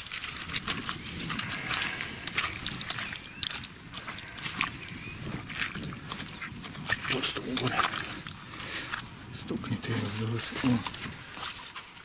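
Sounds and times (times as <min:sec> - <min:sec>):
wet mud squelching: 0:00.0 - 0:12.0.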